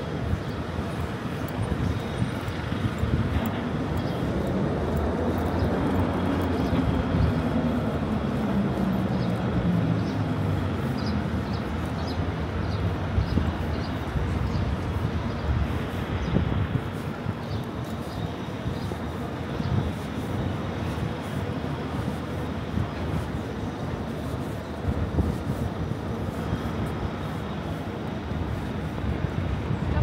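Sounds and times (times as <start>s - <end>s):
city street traffic rumble: 0.0s - 30.0s.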